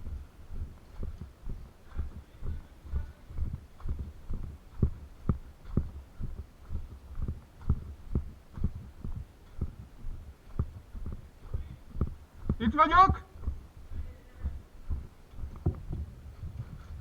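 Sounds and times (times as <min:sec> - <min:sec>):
footsteps on ground: 0:00.0 - 0:17.0.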